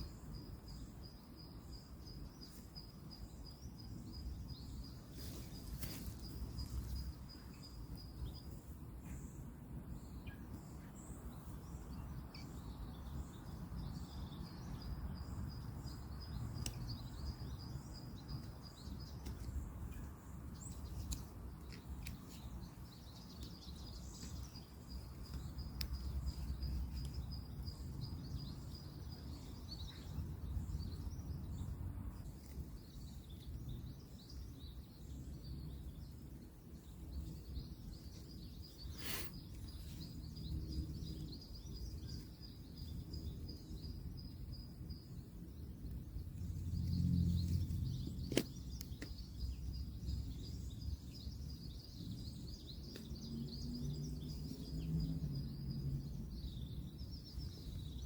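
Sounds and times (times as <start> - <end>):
distant road traffic rumble: 3.0 - 58.0.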